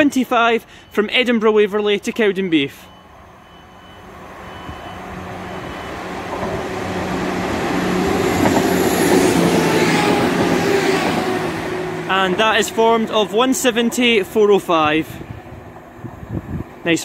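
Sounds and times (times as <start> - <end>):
diesel train engine drone: 0.0 - 17.0
wheel on rail noise: 3.0 - 17.0.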